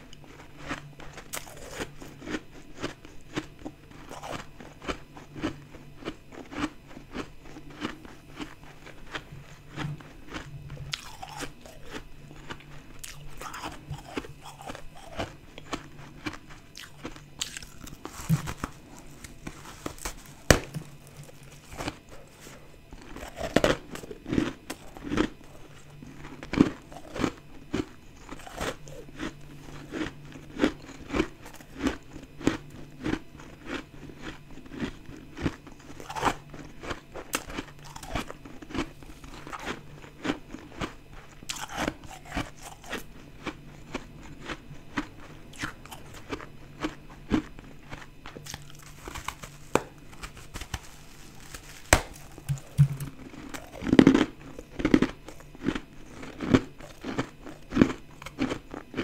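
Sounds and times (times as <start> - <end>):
chewing crunchy ice: 0.0 - 59.0.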